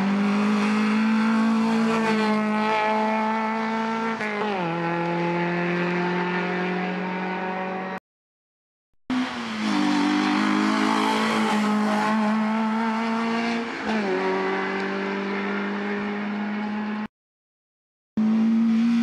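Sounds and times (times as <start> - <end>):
race car engine at high revs: 0.0 - 8.0, 9.1 - 17.1, 18.2 - 19.0.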